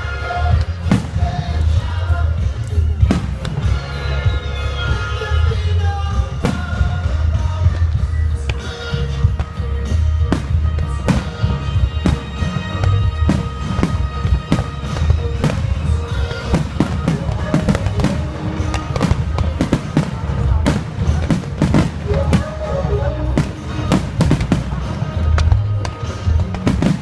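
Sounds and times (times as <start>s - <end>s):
fireworks bursting: 0.0s - 27.0s
music playing: 0.0s - 27.0s.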